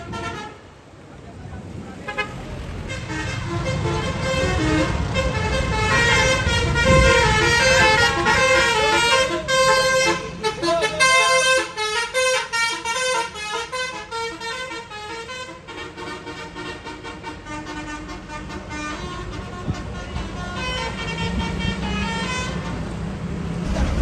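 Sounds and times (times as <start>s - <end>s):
musical bus horn tune: 0.0s - 0.8s, 2.1s - 23.0s
bus engine rumble: 0.0s - 24.0s.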